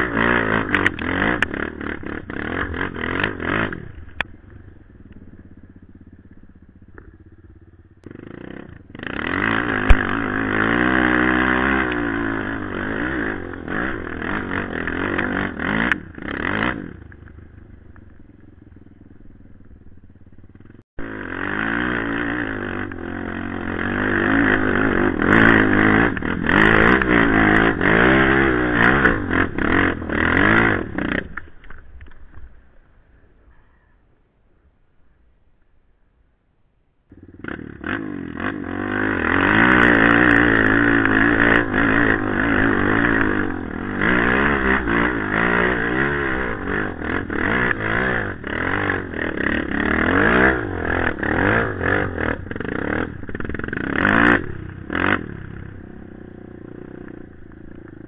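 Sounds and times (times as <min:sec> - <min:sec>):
quad engine revving: 0:00.0 - 0:17.8, 0:18.7 - 0:31.8, 0:37.1 - 0:58.0.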